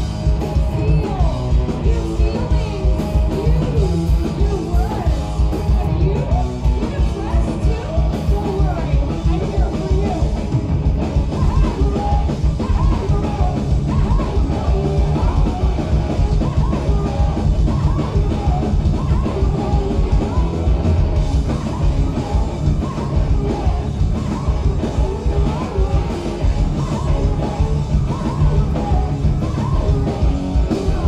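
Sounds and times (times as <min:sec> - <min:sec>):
punk rock band playing: 0:00.0 - 0:31.0
woman singing and yelling: 0:00.6 - 0:10.3, 0:11.2 - 0:31.0.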